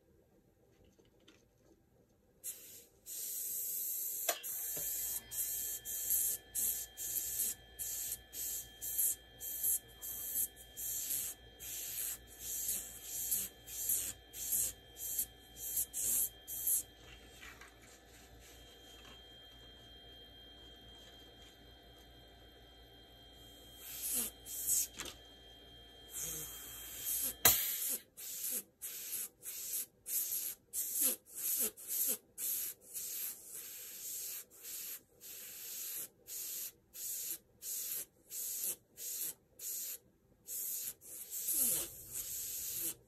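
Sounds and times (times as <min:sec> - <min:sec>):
airbrush spraying paint: 0:02.4 - 0:19.2, 0:23.8 - 0:25.1, 0:26.1 - 0:43.0.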